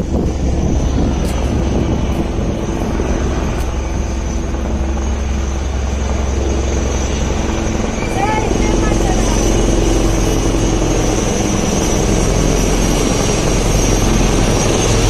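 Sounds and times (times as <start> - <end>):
helicopter rotor and engine rumble: 0.0 - 15.0
high whine: 0.0 - 15.0.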